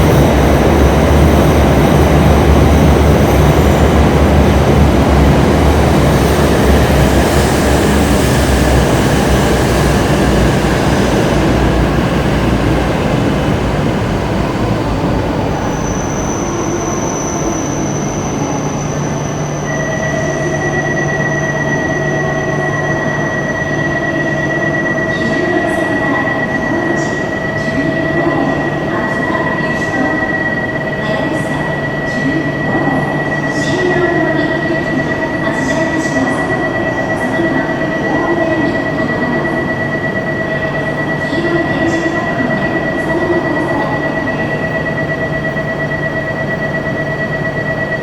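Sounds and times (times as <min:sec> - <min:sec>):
train electrical whine and hum: 0:00.0 - 0:48.0.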